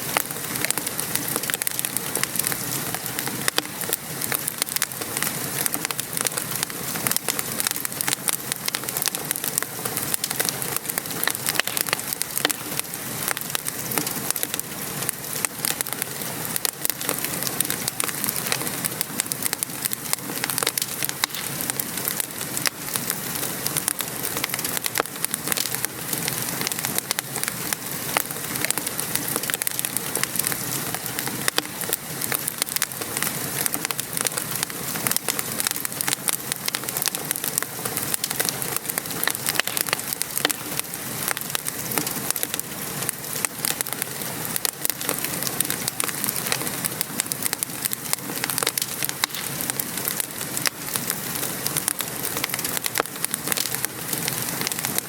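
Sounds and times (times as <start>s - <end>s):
gentle rain: 0.0s - 55.0s
wood fire crackling and popping: 0.0s - 55.0s.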